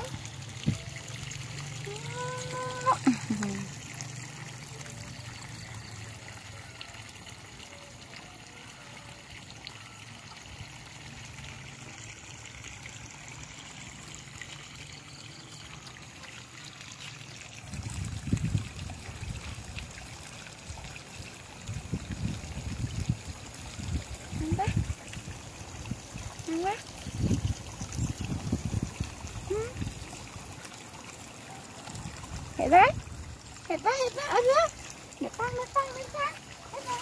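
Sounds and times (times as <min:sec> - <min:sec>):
hose water running onto ground: 0:00.0 - 0:37.0.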